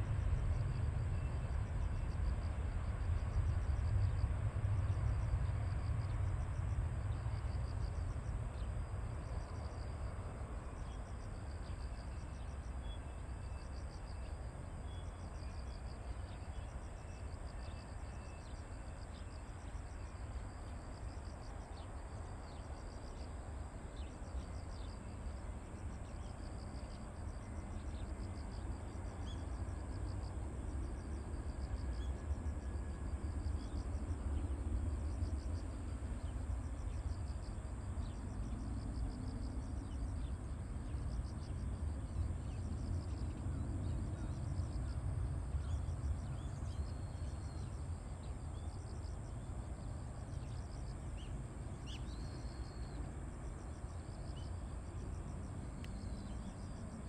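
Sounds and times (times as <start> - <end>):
distant jet engine rumble: 0.0 - 57.0
insects chirping: 0.0 - 57.0.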